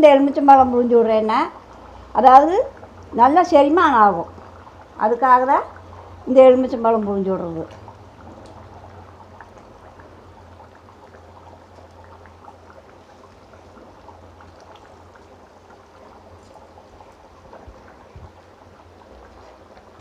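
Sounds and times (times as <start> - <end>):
gravy bubbling in a pot: 0.0 - 20.0.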